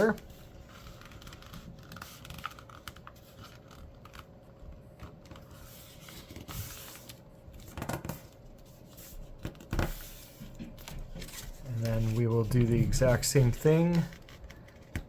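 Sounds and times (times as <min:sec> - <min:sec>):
paper rustling and creasing: 0:00.0 - 0:15.0.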